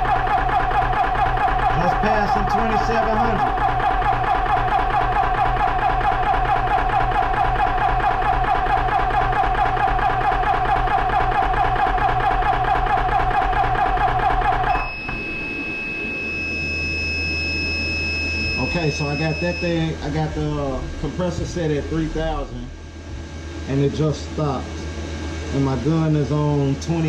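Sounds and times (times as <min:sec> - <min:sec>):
air compressor running: 0:00.0 - 0:27.0
cooling fan humming: 0:00.0 - 0:27.0.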